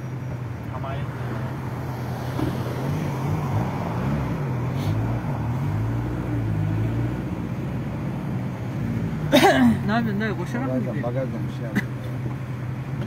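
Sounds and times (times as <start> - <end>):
road and engine noise inside car: 0.0 - 13.0.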